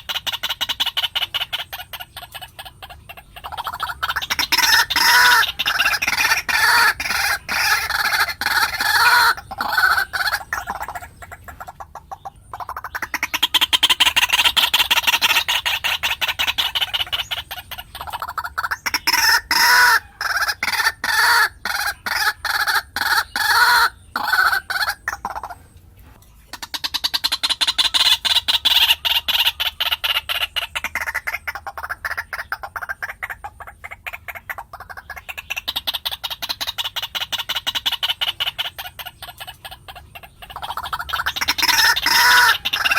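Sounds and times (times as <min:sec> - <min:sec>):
bird harsh clucking calls: 0:00.0 - 0:42.9.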